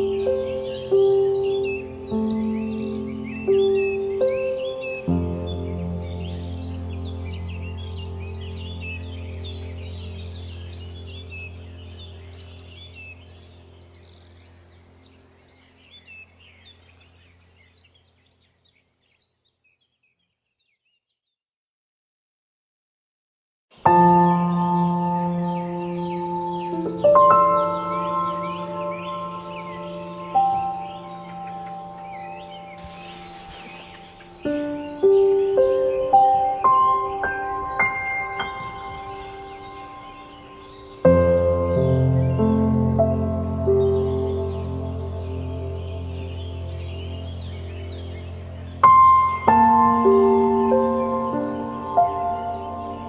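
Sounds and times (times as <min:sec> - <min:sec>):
small birds chirping: 0:00.0 - 0:21.4, 0:23.8 - 0:53.0.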